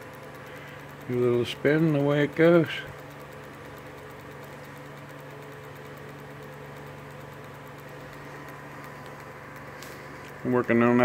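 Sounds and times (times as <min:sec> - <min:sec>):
motor humming with fast ticking: 0:00.0 - 0:11.0.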